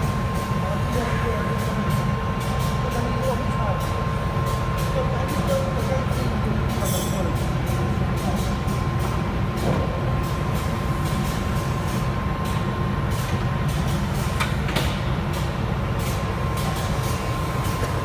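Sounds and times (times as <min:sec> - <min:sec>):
packing machine humming: 0:00.0 - 0:18.0.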